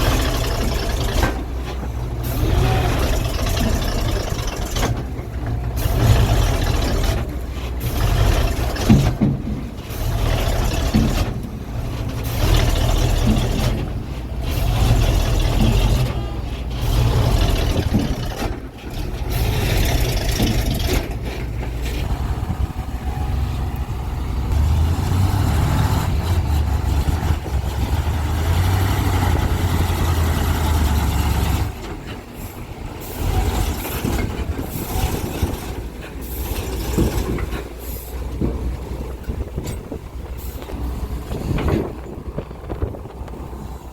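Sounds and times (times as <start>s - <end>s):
heavy diesel engine rumbling: 0.0s - 43.9s.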